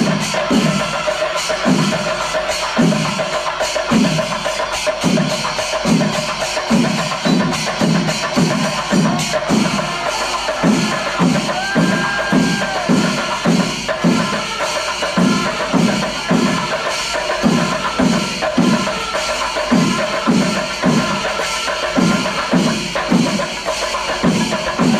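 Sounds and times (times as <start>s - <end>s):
cymbal shimmer: 0.0s - 24.9s
drums and cymbals beating: 0.0s - 24.9s.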